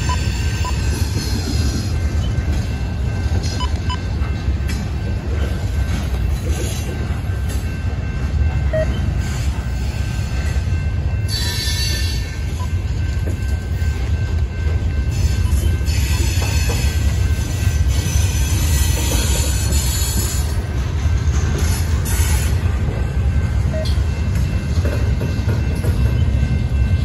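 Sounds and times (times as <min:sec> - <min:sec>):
freight train wheels rumbling: 0:00.0 - 0:27.0.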